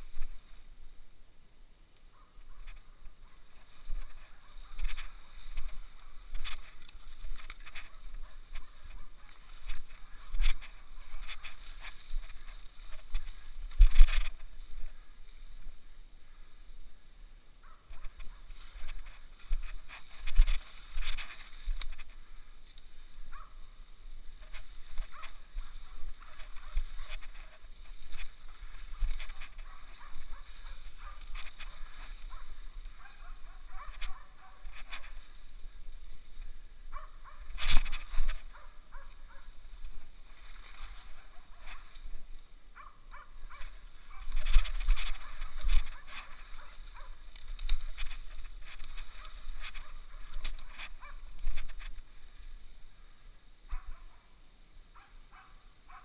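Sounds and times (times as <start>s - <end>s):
footsteps in undergrowth: 0.0s - 1.1s, 2.0s - 54.3s
brush rustling against clothing: 0.0s - 1.2s, 2.0s - 54.2s.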